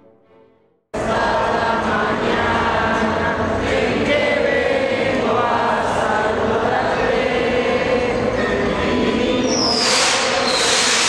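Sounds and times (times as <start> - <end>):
choir singing a hymn: 1.0 - 11.0.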